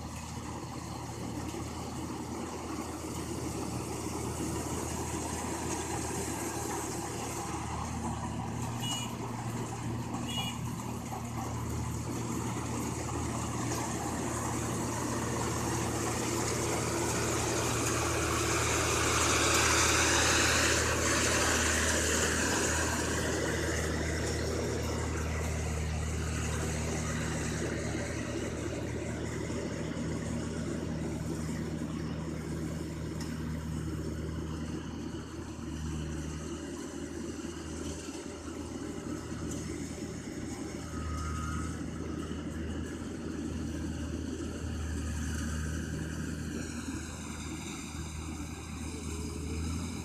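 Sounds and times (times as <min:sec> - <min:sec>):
harvester engine humming: 0:00.0 - 0:50.0.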